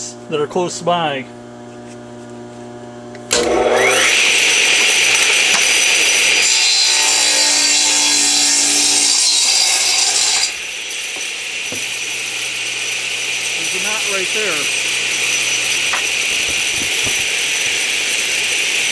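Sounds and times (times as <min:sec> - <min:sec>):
power saw motor: 0:03.1 - 0:18.9
saw blade cutting wood: 0:03.3 - 0:18.9.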